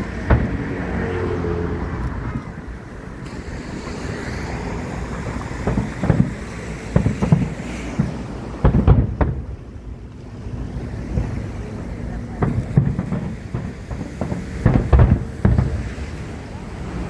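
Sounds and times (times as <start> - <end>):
fireworks booming: 0.0 - 1.7, 2.3 - 17.0
wind on microphone: 0.0 - 17.0.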